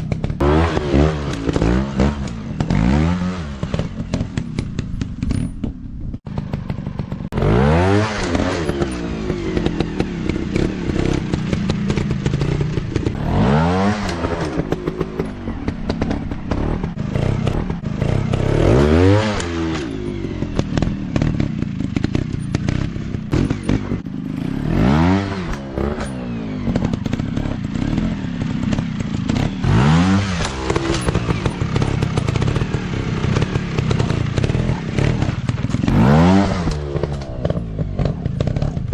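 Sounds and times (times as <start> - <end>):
dirt bike engine revving: 0.0 - 5.0, 6.3 - 38.9.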